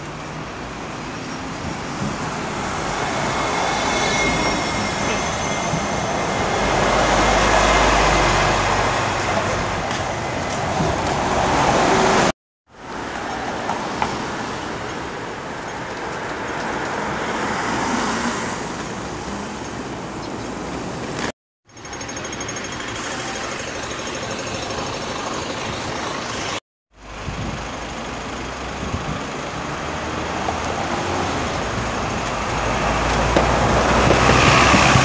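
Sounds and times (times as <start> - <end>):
city road traffic: 0.0 - 35.0.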